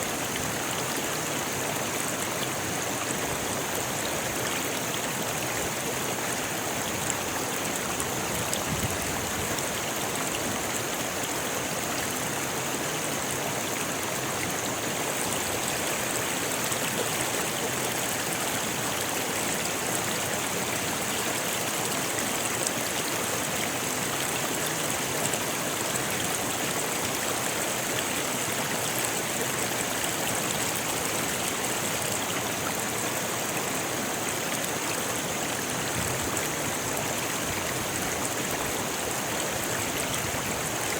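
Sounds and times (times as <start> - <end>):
river flowing over stones: 0.0 - 40.9.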